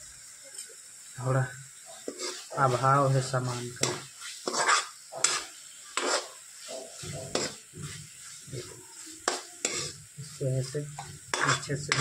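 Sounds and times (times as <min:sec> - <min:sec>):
food sizzling: 0:00.0 - 0:12.0
metal spatula scraping a pan: 0:01.8 - 0:12.0.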